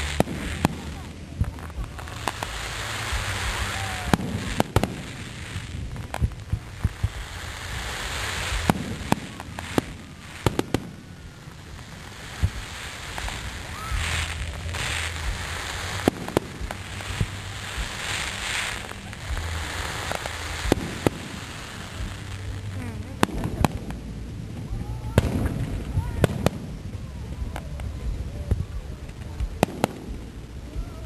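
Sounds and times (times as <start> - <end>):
crackling firework hiss: 0.0 - 31.0.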